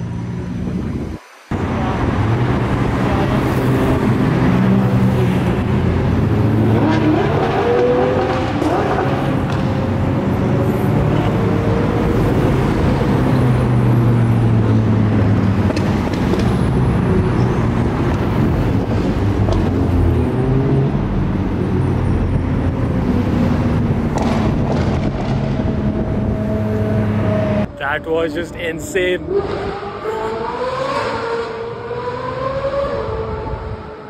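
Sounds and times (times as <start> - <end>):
sports cars driving past: 1.5 - 34.0.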